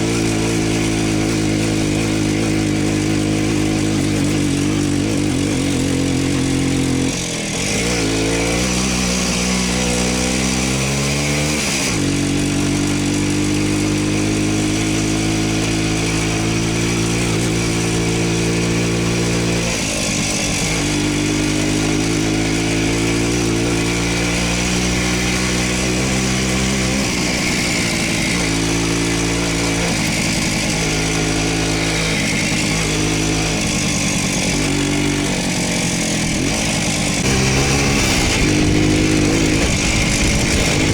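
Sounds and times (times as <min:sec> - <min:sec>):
two-stroke motorcycle engine: 0:00.0 - 0:40.9.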